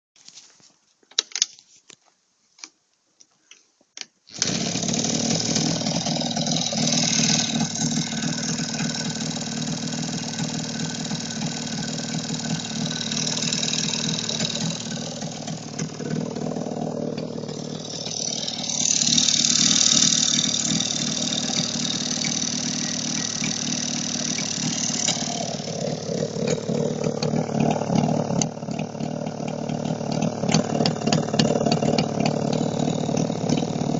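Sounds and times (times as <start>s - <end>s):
two-stroke engine running: 4.3s - 33.9s.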